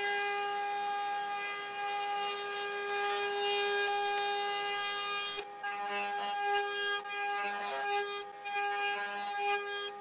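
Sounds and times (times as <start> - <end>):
router bit cutting wood: 0.0 - 10.0
router motor whining: 0.0 - 10.0.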